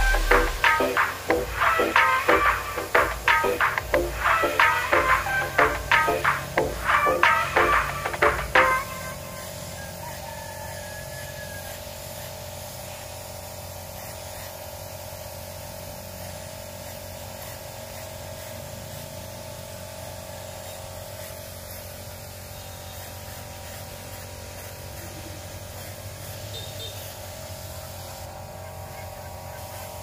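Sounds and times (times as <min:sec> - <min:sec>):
spray gun hissing: 0:00.0 - 0:09.7, 0:11.6 - 0:30.0.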